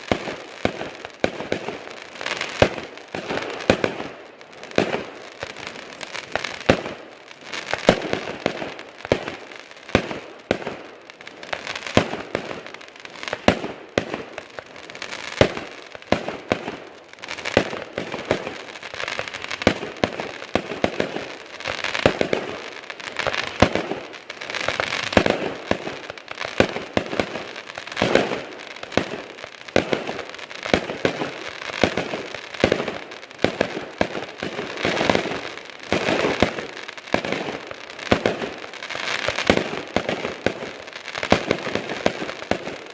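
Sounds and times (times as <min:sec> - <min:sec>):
fireworks bangs: 0:00.0 - 0:42.9
fireworks crackling: 0:00.0 - 0:42.9.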